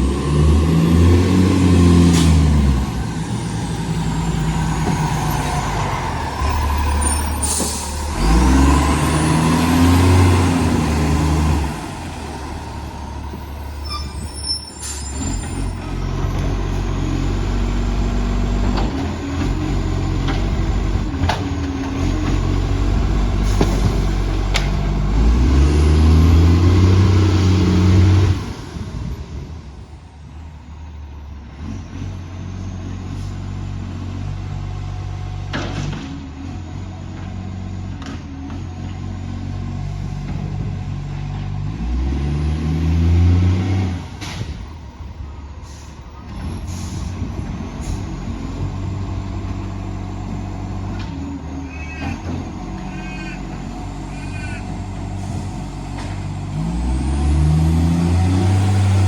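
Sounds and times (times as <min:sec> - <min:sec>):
diesel engine revving: 0:00.0 - 0:30.1, 0:30.9 - 0:59.0.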